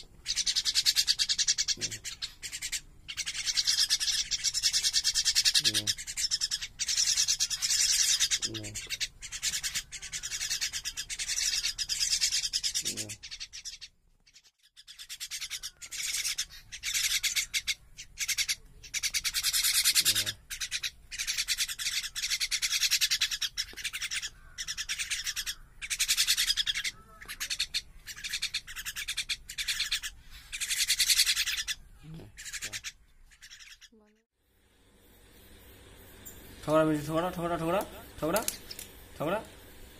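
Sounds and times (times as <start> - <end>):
birds harsh begging calls: 0.0 - 34.2, 34.9 - 39.9.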